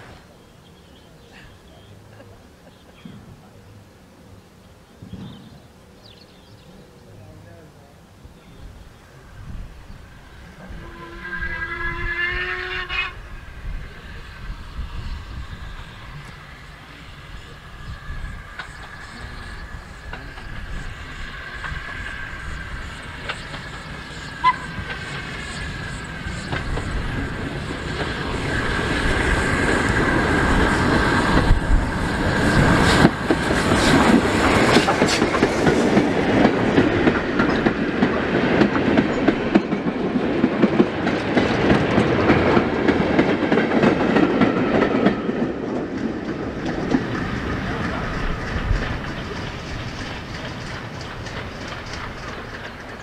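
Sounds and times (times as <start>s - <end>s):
steam train passing: 0.0s - 53.0s.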